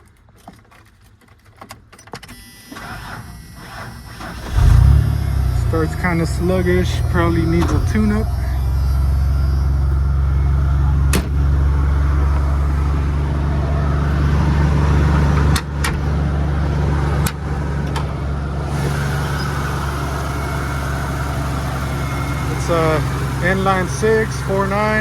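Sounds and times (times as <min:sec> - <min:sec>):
truck engine idling: 0:04.4 - 0:25.0.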